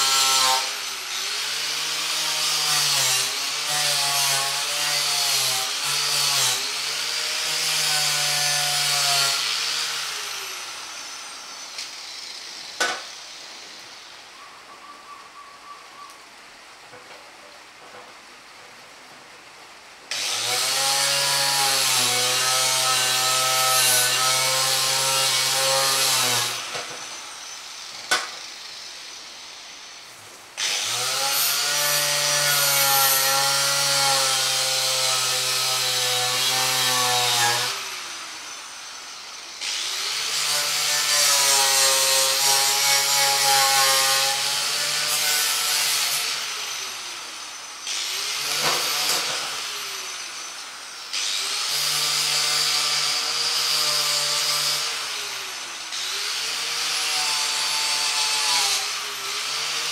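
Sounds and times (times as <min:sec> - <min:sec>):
electric power tool on metal box: 0:00.0 - 0:14.0, 0:20.1 - 0:59.9.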